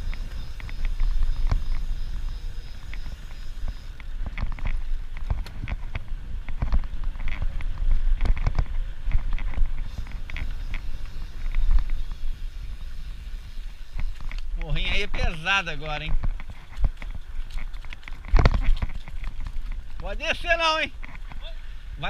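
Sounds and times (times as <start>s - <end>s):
bicycle clicks and rattles: 0.0s - 20.4s
bicycle rolling on dirt track: 0.0s - 22.0s.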